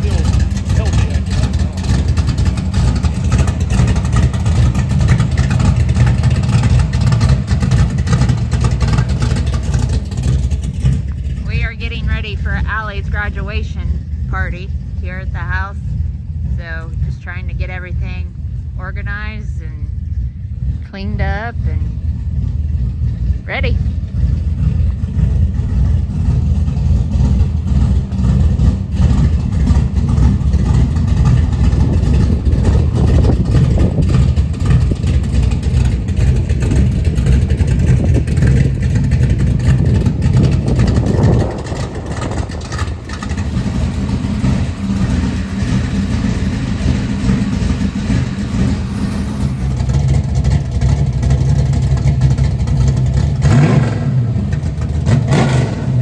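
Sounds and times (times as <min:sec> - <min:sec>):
car engine running loudly: 0:00.0 - 0:56.0.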